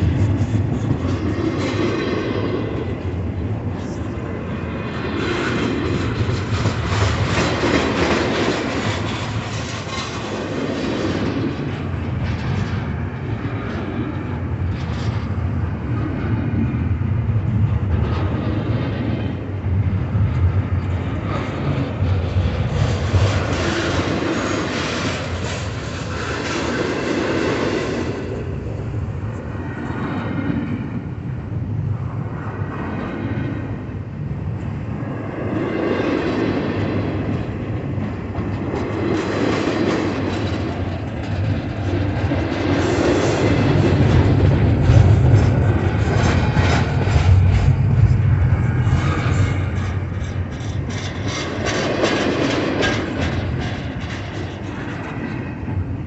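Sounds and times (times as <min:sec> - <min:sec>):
freight train passing: 0:00.0 - 0:56.0
wheels clickety-clack on rails: 0:00.0 - 0:56.0.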